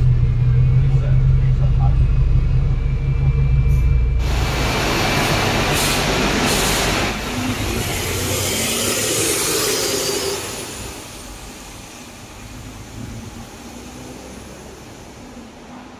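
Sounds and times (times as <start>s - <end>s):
bus engine running: 0.0s - 15.9s.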